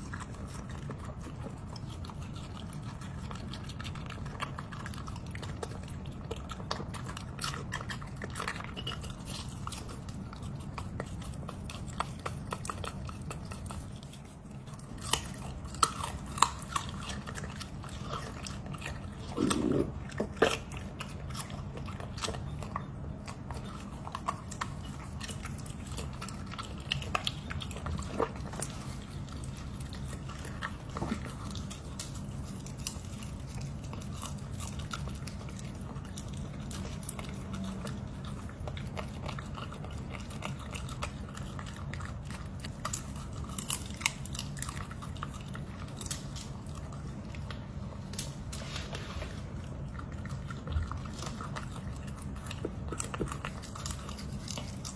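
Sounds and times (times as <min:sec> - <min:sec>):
dog crunching vegetables: 0:00.0 - 0:54.9.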